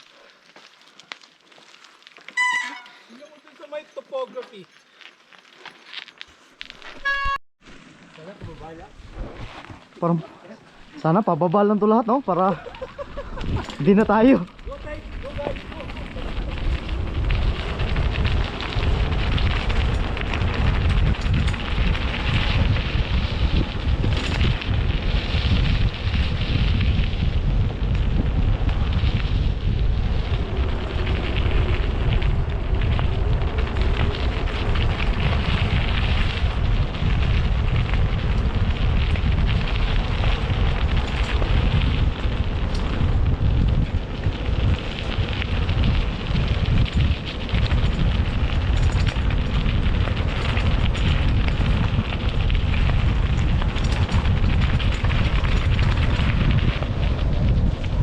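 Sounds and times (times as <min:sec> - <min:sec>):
wind buffeting microphone: 0:08.4 - 0:58.0.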